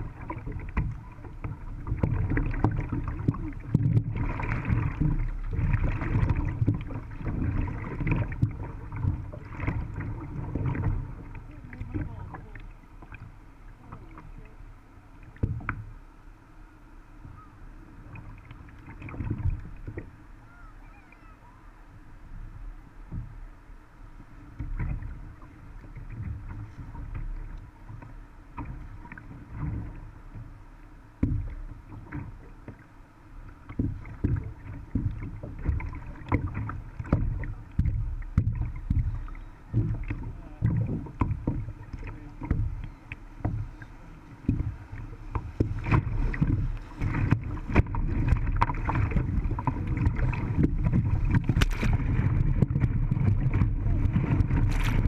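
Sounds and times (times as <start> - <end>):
paddle splashes and knocks: 0.0 - 16.1, 17.1 - 21.4, 22.4 - 23.5, 24.1 - 55.0
moving water wash: 0.0 - 55.0.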